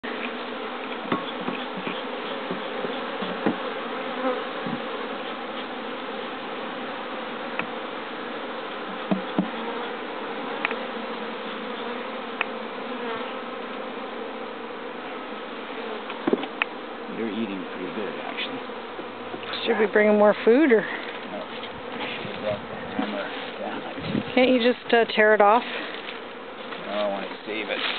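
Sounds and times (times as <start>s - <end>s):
honeybees buzzing: 0.0s - 27.9s.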